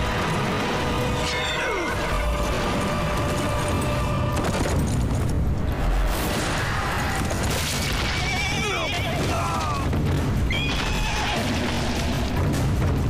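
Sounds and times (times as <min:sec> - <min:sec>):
dramatic orchestral music: 0:00.0 - 0:13.0.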